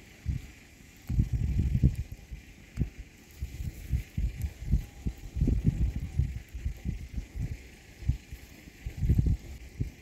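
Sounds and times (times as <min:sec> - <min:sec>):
fire crackling: 0:00.0 - 0:10.0
wind buffeting microphone: 0:00.0 - 0:10.0.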